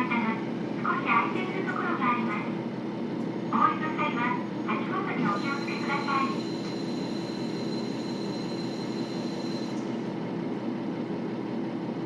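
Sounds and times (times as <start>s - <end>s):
diesel railcar engine drone: 0.0s - 12.0s.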